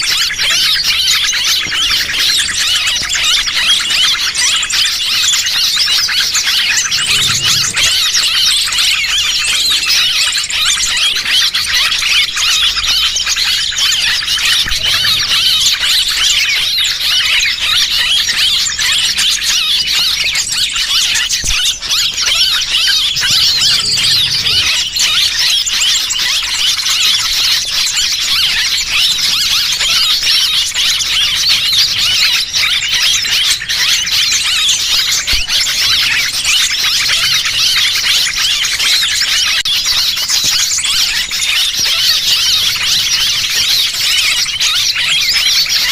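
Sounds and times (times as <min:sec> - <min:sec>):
many small birds chirping: 0:00.0 - 0:45.9.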